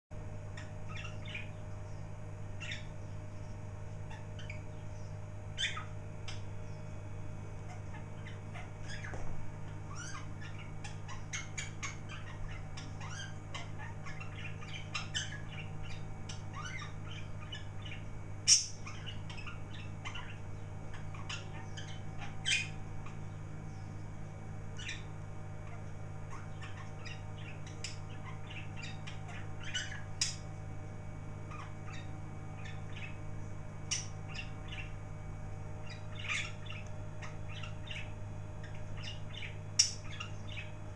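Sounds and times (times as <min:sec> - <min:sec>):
steady low hum: 0:00.1 - 0:40.9
budgerigars chirping: 0:00.4 - 0:07.0, 0:07.6 - 0:24.0, 0:24.7 - 0:30.6, 0:31.4 - 0:35.0, 0:35.8 - 0:40.9.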